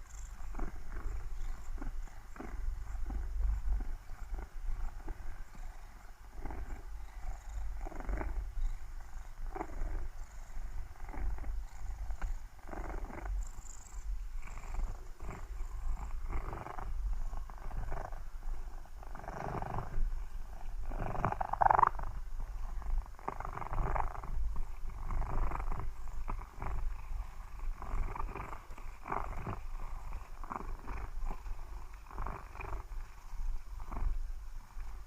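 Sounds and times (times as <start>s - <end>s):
cat purring: 0.0s - 35.0s.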